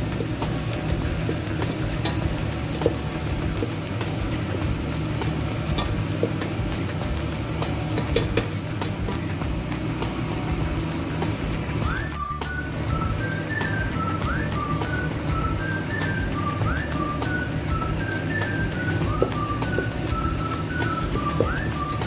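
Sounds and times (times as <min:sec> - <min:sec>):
onions sizzling in oil: 0:00.0 - 0:22.0.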